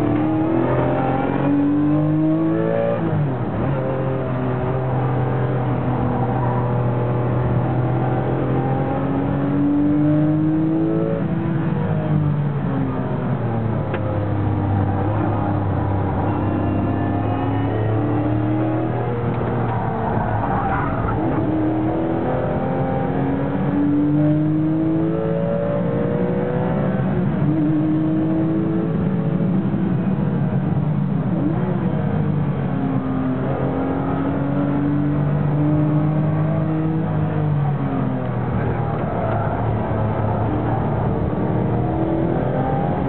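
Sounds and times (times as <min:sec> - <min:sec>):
race car engine accelerating: 0:00.0 - 0:30.0, 0:31.3 - 0:43.0.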